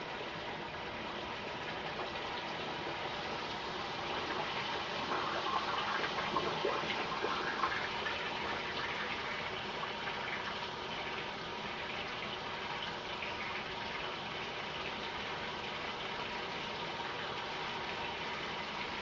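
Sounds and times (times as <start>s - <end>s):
water running: 1.4s - 19.0s.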